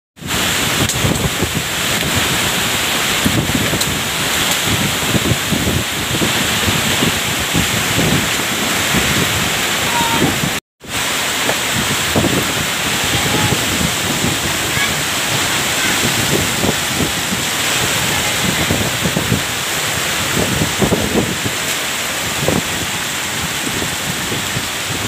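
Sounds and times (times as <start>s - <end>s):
heavy rain hissing: 0.2s - 25.0s
wind gusts buffeting microphone: 0.2s - 25.0s.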